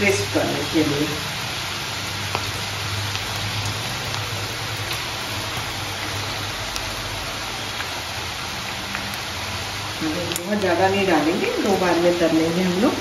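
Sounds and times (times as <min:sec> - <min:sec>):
okra deep-frying in oil: 0:00.0 - 0:13.0.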